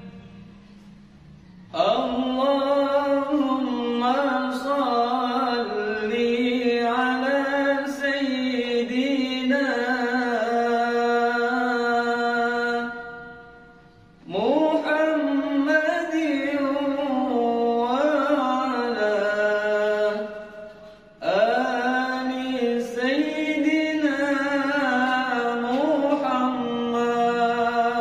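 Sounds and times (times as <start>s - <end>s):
man chanting unaccompanied: 1.7s - 28.0s.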